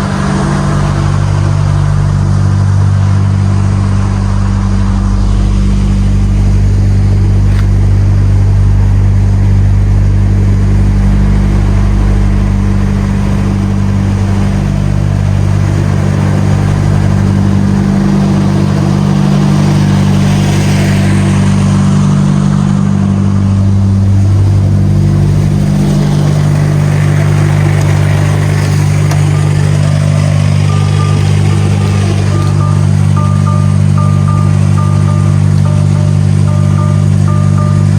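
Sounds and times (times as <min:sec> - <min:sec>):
road noise: 0:00.0 - 0:37.9
truck diesel engine droning: 0:00.0 - 0:37.9.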